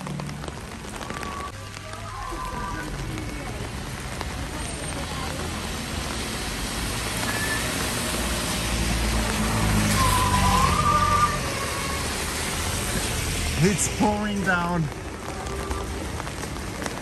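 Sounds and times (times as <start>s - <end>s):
cars passing on wet road: 0.0s - 17.0s
heavy rain: 0.0s - 17.0s.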